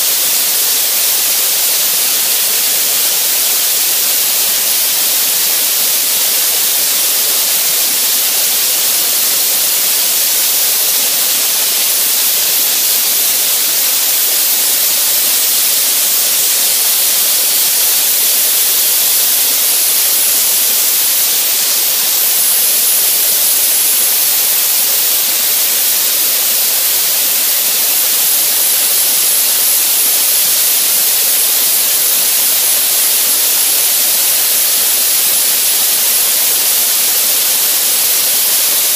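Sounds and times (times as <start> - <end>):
blaster nozzle hissing: 0.0 - 38.9.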